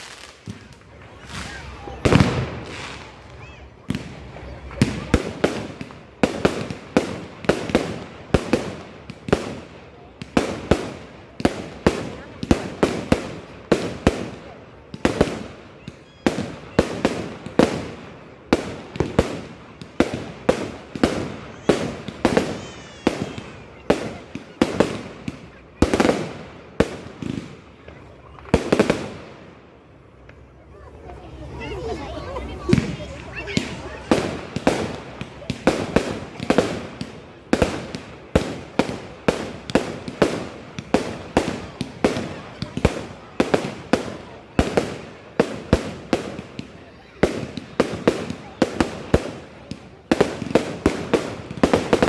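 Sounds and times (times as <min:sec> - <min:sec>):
fireworks bangs echoing: 0:00.0 - 0:52.0.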